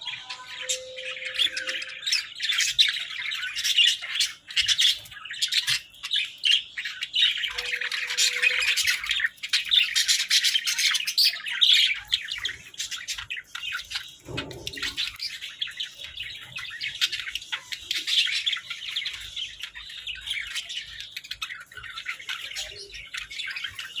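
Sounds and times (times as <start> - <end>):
budgerigars chattering and warbling: 0.0 - 24.0.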